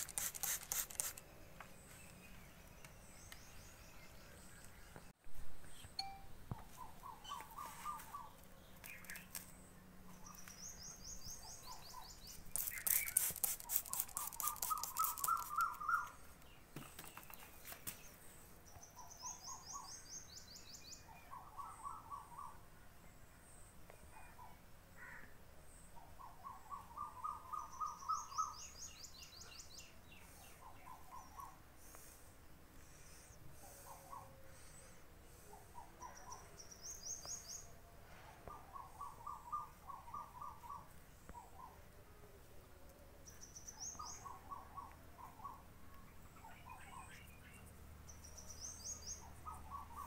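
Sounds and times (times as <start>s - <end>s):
small birds singing trills: 0.0s - 37.8s, 38.4s - 41.9s, 43.2s - 50.0s.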